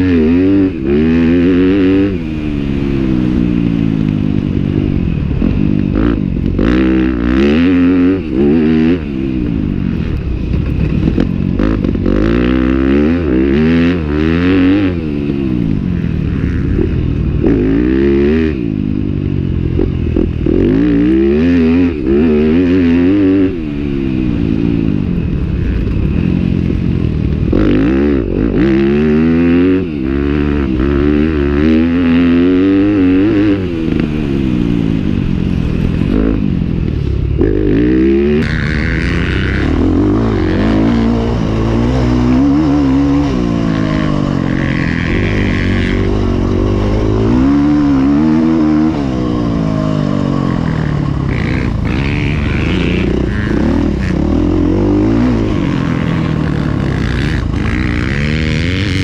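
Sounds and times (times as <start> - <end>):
motorcycle engine racing: 0.0 - 59.0.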